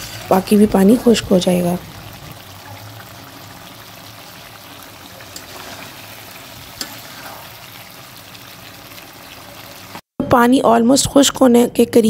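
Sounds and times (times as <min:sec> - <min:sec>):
gravy boiling in pan: 0:00.0 - 0:10.1.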